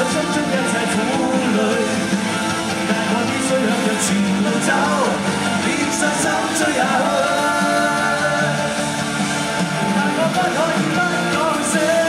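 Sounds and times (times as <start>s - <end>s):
live rock band: 0.0s - 12.0s
person singing: 0.0s - 12.0s.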